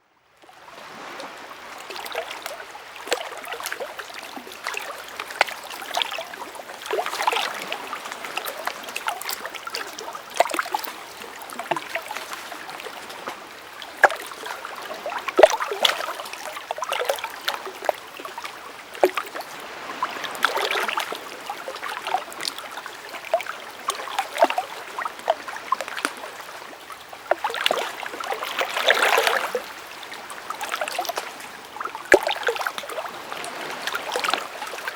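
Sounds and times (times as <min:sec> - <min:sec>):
water running in a stream: 0:00.4 - 0:34.9
water splashing and gurgling: 0:00.6 - 0:34.9.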